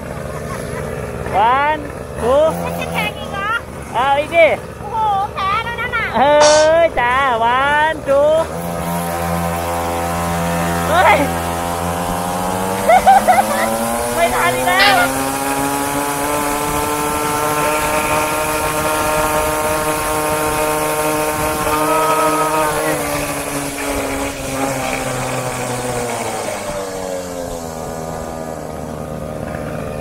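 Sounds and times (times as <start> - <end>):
two-stroke engine revving high: 0.0 - 4.2, 6.4 - 30.0.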